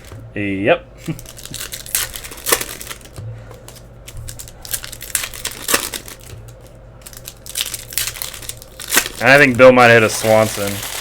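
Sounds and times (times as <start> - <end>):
low steady hum: 0.0 - 11.0
foil wrappers crinkling: 1.0 - 11.0
cards being handled: 1.1 - 11.0.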